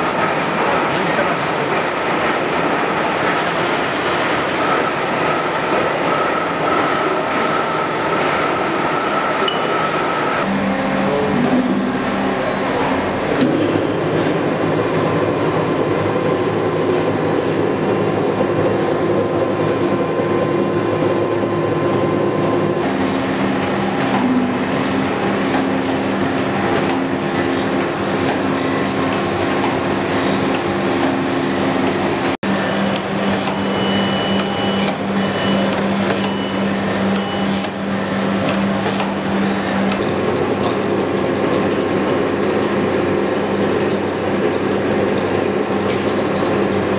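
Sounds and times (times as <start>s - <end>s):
machine tools running: 0.0s - 46.9s.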